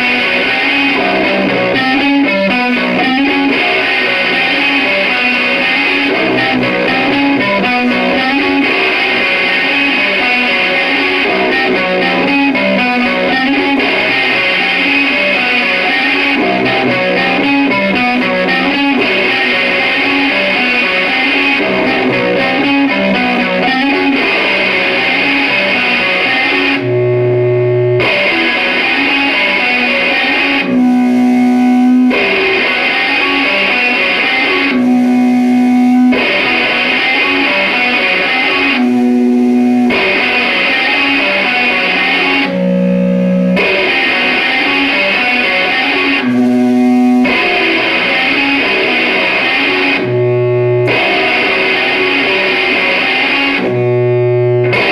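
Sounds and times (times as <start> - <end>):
electric guitar riff: 0.0 - 54.9.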